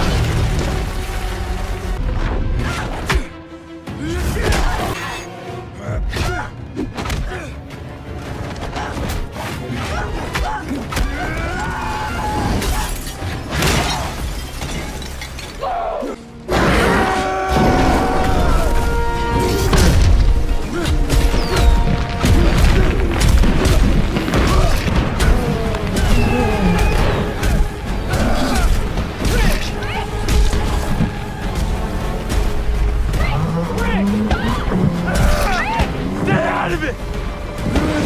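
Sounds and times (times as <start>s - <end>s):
dramatic score music: 0.0s - 38.0s.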